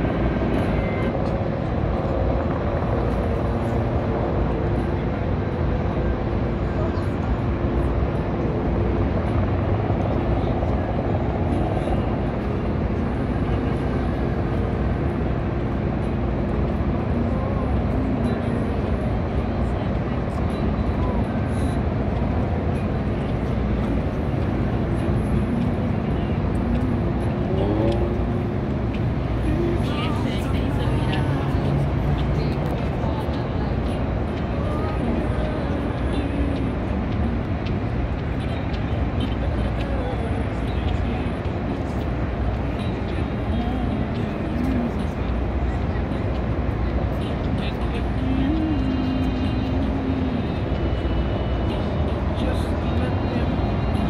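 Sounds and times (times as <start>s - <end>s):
city background noise: 0.0s - 54.0s
helicopters passing overhead: 0.0s - 54.0s.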